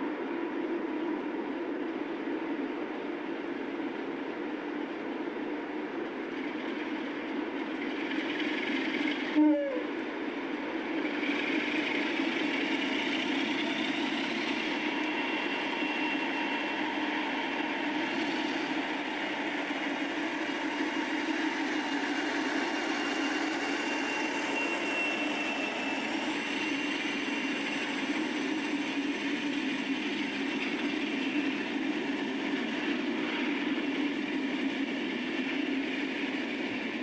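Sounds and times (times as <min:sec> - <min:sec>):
faint high whine: 0:00.0 - 0:37.0
diesel locomotive engine idling: 0:06.4 - 0:37.0.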